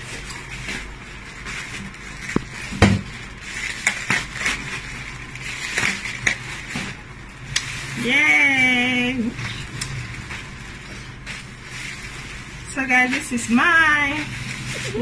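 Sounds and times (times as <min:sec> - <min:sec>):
plastic crinkling and rustling: 0:00.0 - 0:15.0.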